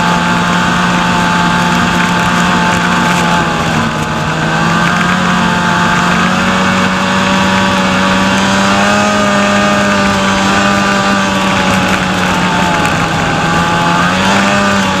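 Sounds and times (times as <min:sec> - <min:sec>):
snowmobile engine running: 0:00.0 - 0:15.0.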